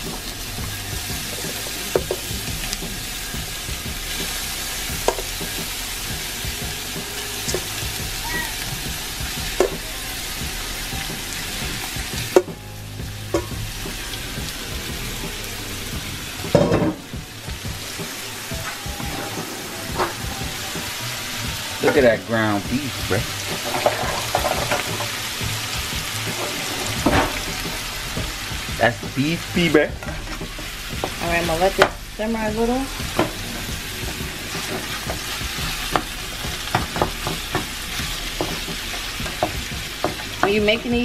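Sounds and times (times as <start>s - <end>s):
meat sizzling in a frying pan: 0.0s - 41.0s.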